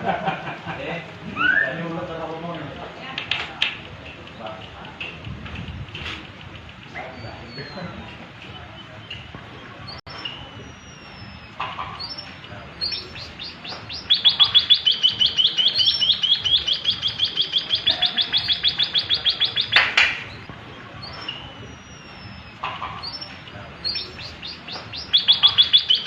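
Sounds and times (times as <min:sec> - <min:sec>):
high bird notes: 0:01.2 - 0:03.1, 0:03.8 - 0:26.0
bird singing trill: 0:01.3 - 0:02.8, 0:06.3 - 0:26.0.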